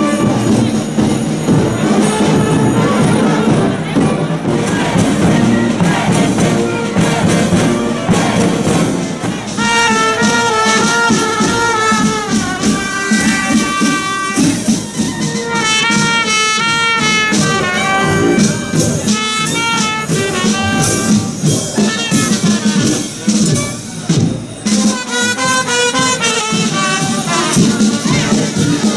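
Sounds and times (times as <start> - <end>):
dense percussion: 0.0 - 25.0
brass instruments playing melody: 0.0 - 28.9.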